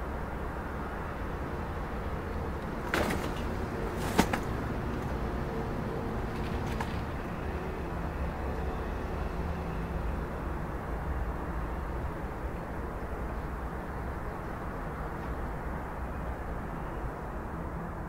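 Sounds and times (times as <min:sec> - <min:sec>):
low rumble of city traffic: 0:00.0 - 0:18.0.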